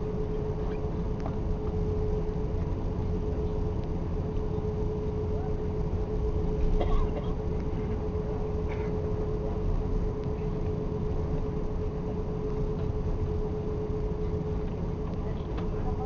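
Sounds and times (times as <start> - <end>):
aircraft engines rumbling: 0.0 - 16.0.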